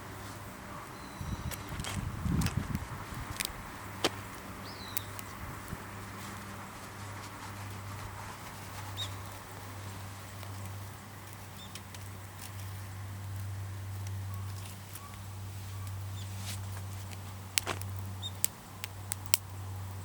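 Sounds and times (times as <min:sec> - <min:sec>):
wood fire pops and cracks: 0:01.4 - 0:19.6.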